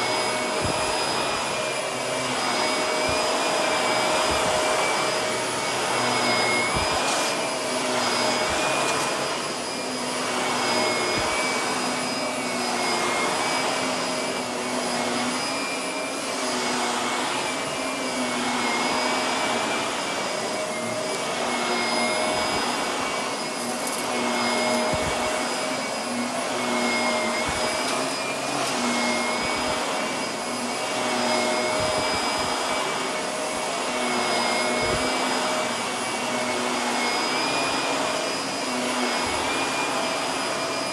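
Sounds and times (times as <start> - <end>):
vacuum cleaner on carpet: 0.0 - 40.9.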